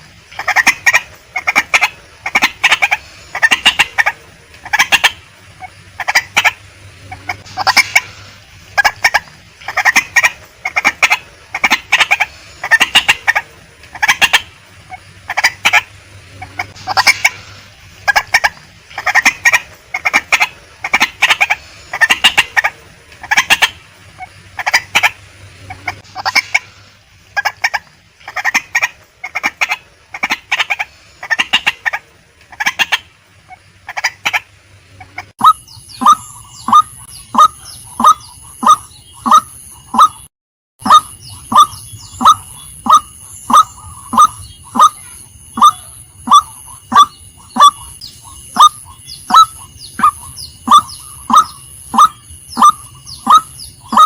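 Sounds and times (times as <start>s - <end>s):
waterhen clucking calls: 0.0s - 54.0s.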